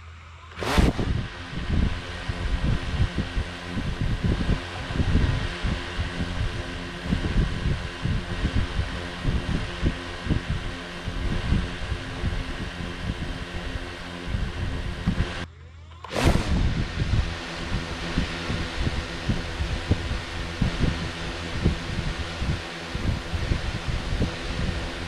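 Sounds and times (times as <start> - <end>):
drone motors whining: 0.0 - 25.0
low rumble: 0.0 - 25.0.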